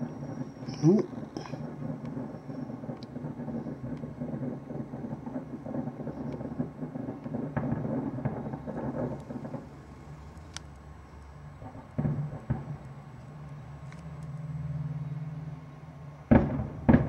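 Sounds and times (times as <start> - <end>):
distant fireworks booming: 0.0 - 17.0.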